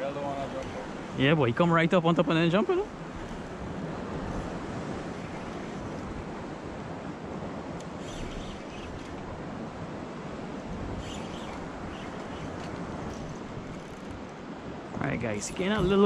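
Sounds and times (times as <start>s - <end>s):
wind on microphone: 2.7s - 16.0s.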